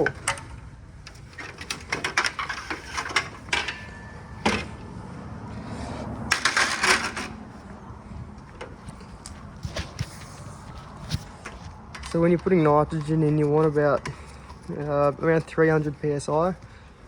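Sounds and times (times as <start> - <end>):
tools and parts clattering: 0.0 - 4.9, 6.2 - 7.6, 8.6 - 16.7.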